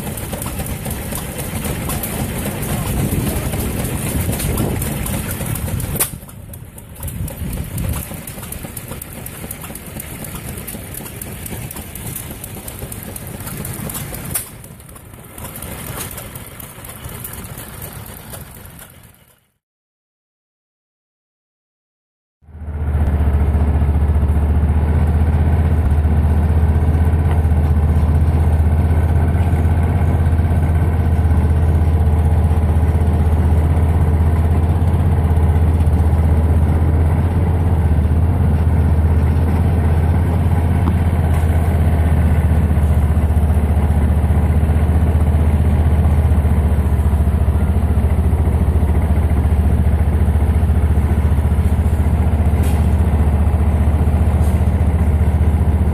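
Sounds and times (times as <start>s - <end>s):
golf cart engine running: 0.0s - 19.6s, 22.5s - 55.9s.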